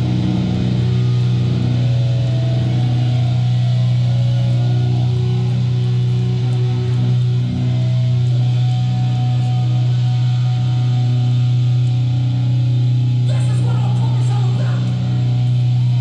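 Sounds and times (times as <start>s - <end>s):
electric guitar and bass drone: 0.0s - 16.0s.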